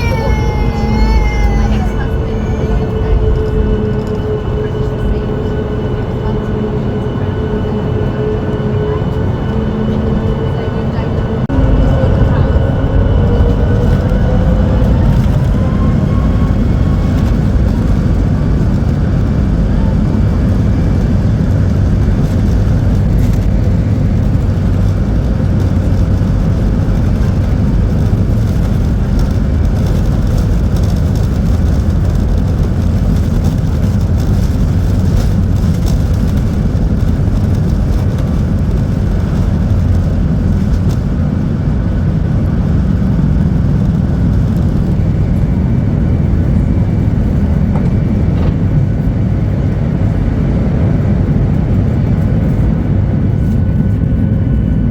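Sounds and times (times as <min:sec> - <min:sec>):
jet engine rumble in cabin: 0:00.0 - 0:54.9.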